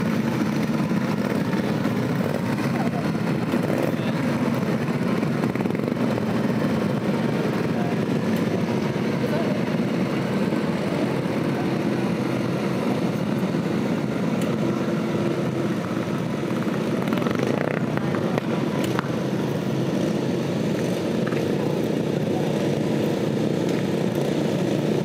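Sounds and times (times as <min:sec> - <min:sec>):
lawn mower engines running: 0:00.0 - 0:25.0.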